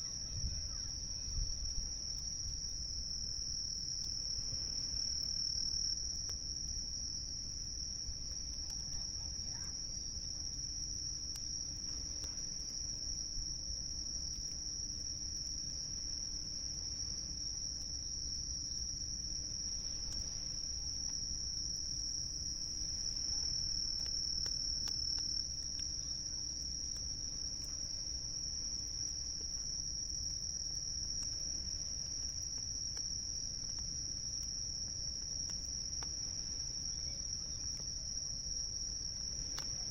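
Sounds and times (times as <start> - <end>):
campfire crackling: 0.0 - 39.9
insects trilling: 0.0 - 39.9.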